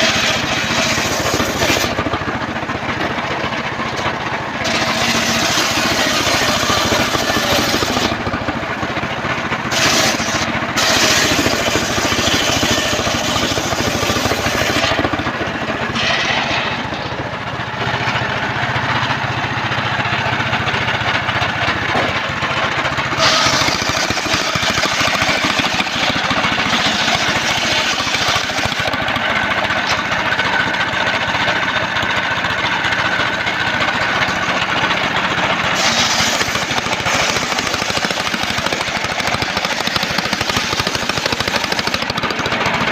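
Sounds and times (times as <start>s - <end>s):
circular sawmill cutting log: 0.0s - 42.9s.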